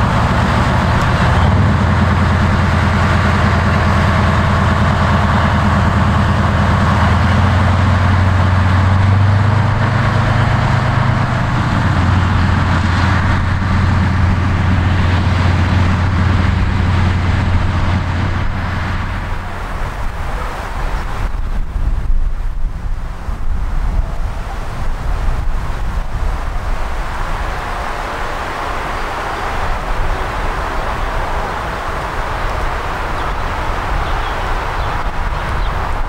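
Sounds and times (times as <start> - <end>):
diesel locomotive engine running: 0.0 - 36.0.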